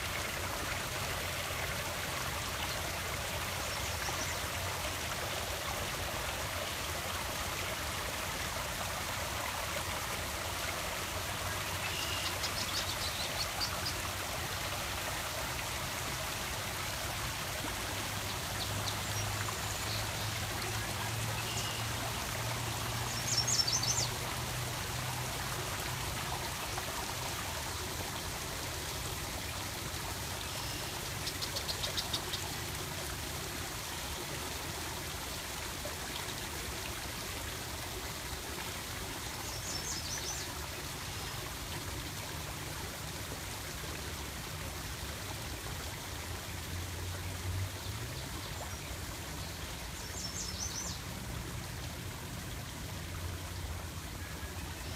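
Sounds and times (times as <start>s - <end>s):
water flowing and trickling: 0.0s - 54.9s.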